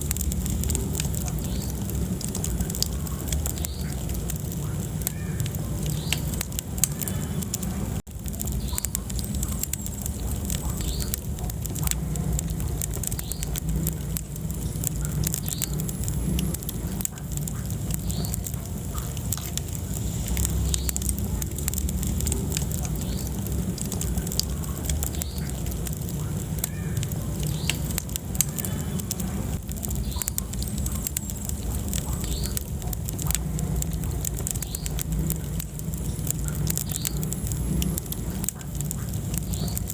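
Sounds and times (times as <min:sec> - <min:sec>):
fire popping and snapping: 0:00.0 - 0:39.9
low rumble of flames: 0:00.0 - 0:39.9
wood fire crackling: 0:00.0 - 0:39.9.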